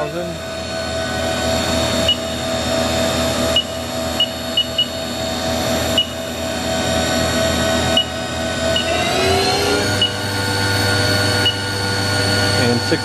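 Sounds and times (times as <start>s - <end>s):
spindle whine: 0.0s - 13.0s.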